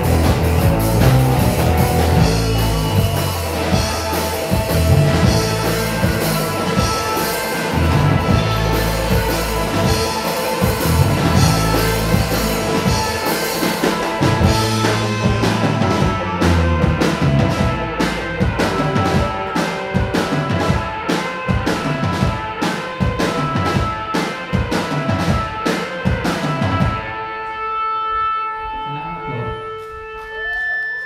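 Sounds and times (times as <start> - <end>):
drum kit: 0.0 - 27.6
live rock band playing: 0.0 - 31.0.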